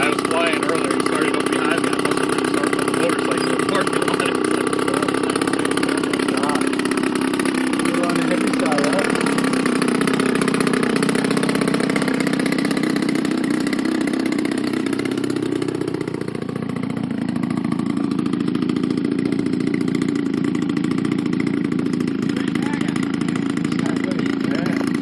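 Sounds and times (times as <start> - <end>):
model plane engine running: 0.0 - 25.0.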